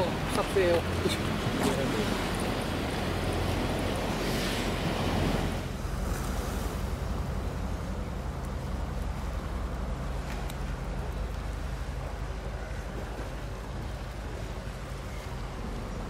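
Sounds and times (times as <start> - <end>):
outdoor ambience hiss: 0.0 - 16.0
wind rumbling on microphone: 0.0 - 16.0.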